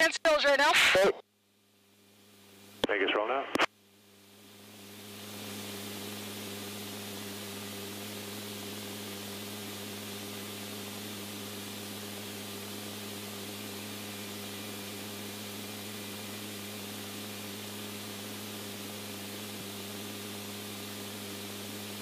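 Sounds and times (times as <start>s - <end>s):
radio static hiss: 0.0s - 1.2s, 1.8s - 22.0s.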